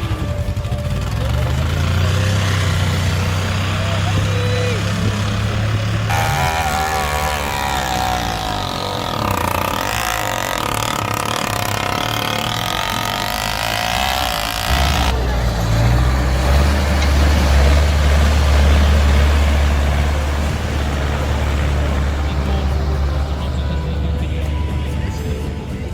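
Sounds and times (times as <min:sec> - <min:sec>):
background voices: 0:00.0 - 0:25.9
heavy vehicle engine drone: 0:00.0 - 0:25.9.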